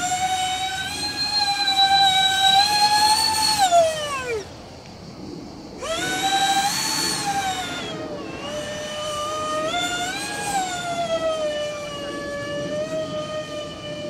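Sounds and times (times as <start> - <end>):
electric ducted fans whining: 0.0 - 14.0.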